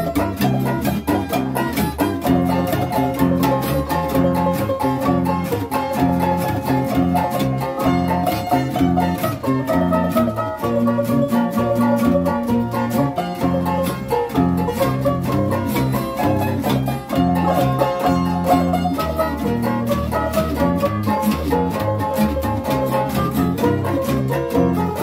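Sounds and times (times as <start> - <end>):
banjos strummed and picked: 0.0 - 25.0
guitar strummed: 0.0 - 25.0
plucked acoustic bass: 0.0 - 25.0.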